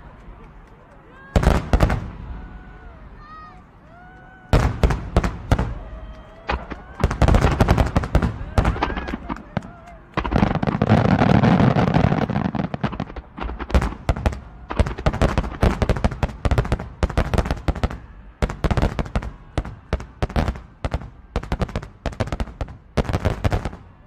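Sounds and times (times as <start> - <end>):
fireworks bangs and crackles: 0.2 - 3.7, 4.3 - 24.0.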